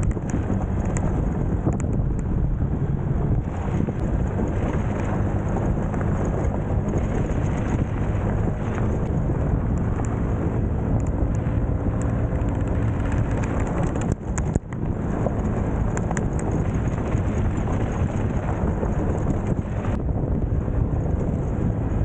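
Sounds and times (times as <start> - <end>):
motorbike engine hum: 0.0 - 22.0
wind noise on microphone: 0.0 - 22.0.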